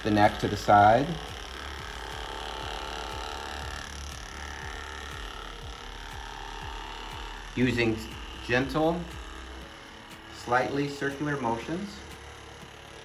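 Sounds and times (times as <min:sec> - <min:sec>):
massage gun motor humming: 0:00.0 - 0:13.0.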